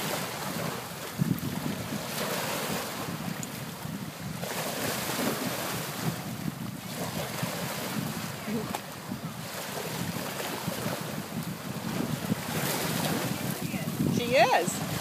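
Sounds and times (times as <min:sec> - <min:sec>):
waves washing over boulders: 0:00.0 - 0:15.0
wind buffeting microphone: 0:00.0 - 0:15.0.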